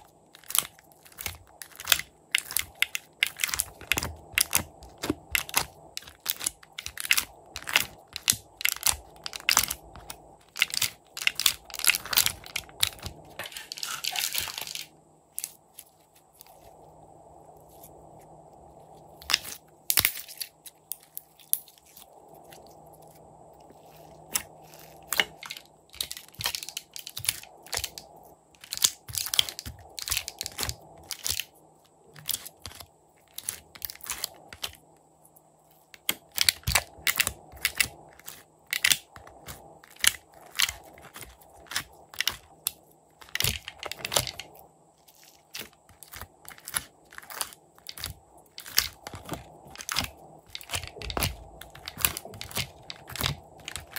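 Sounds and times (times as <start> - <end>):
slime crunching and crackling: 0.0 - 16.7, 23.7 - 31.5, 32.1 - 34.8, 36.0 - 53.9.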